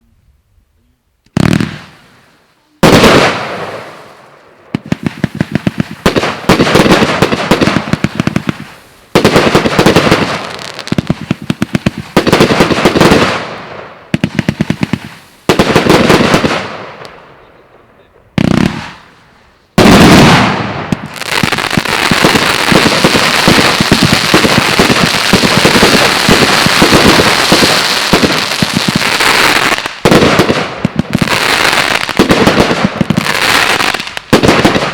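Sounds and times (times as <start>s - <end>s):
firework firing rapid loud shots: 1.4s - 2.1s, 2.8s - 4.0s, 4.7s - 17.2s, 18.4s - 19.1s, 19.8s - 34.9s.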